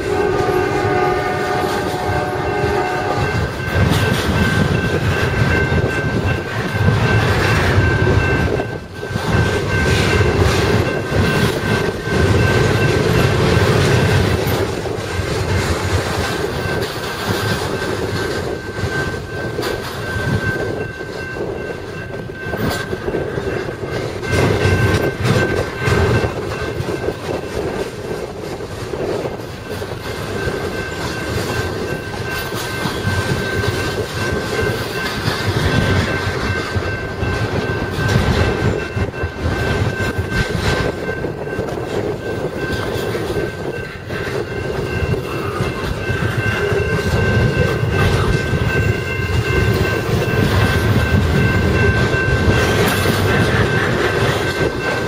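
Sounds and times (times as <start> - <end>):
train wheels clicking over rail joints: 0.0 - 55.0.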